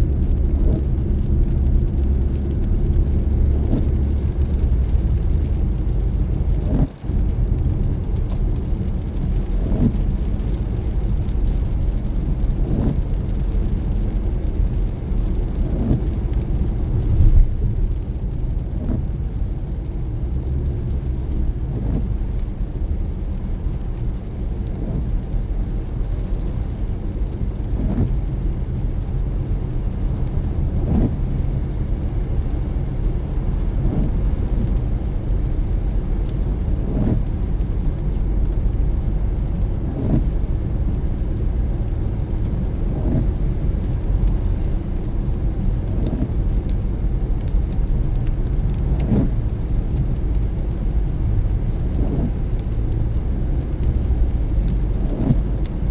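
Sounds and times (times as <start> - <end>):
car road and engine rumble: 0.0 - 55.9
windshield wipers sweeping: 0.1 - 55.8.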